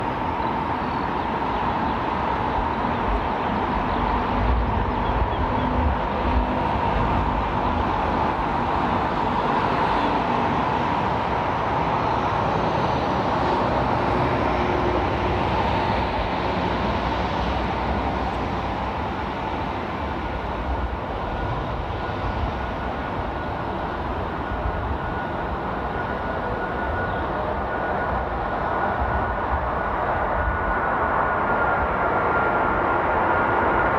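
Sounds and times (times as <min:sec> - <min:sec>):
jet engines rushing with high whine: 0:00.0 - 0:33.9.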